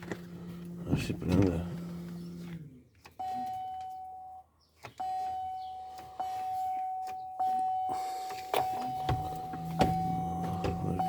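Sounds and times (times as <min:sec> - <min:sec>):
car warning chime dinging: 0:00.0 - 0:11.0.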